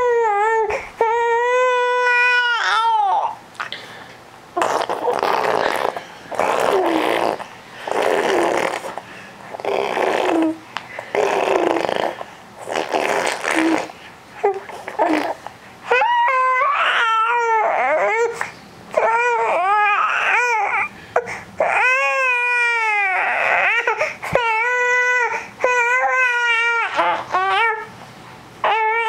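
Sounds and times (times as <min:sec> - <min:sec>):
infant fussy whine: 0:00.0 - 0:03.8, 0:04.6 - 0:28.0, 0:28.6 - 0:29.0
infant rasping vocal noises: 0:04.6 - 0:27.9.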